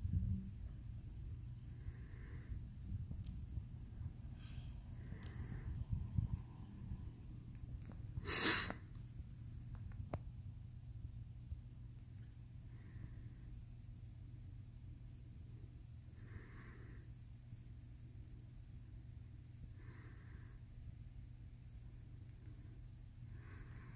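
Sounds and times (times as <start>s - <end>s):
cricket chirping: 0.0s - 23.9s.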